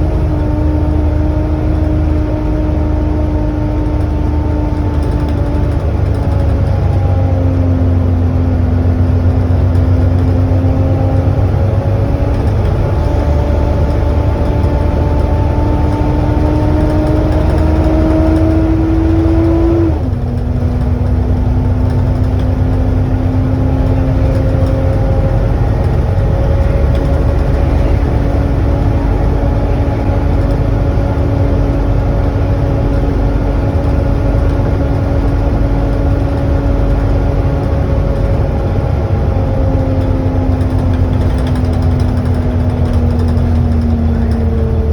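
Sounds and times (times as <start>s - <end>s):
bus drive whine: 0.0s - 44.9s
deep engine rumble: 0.0s - 44.9s.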